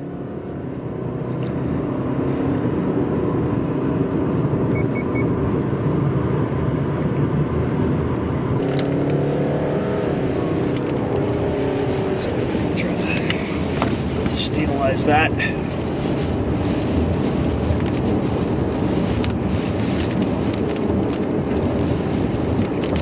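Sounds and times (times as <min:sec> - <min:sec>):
car engine: 0:00.0 - 0:23.0.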